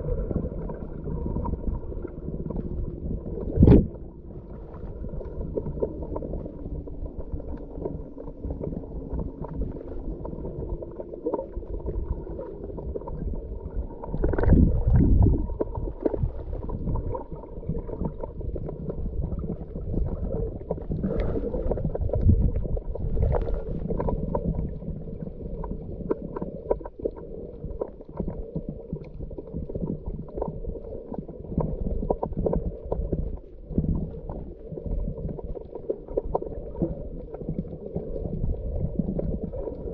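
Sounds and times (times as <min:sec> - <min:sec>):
faint steady hum: 0:00.0 - 0:39.9
gurgling exhaled bubbles: 0:00.0 - 0:39.9
muffled underwater rumble: 0:00.0 - 0:39.9.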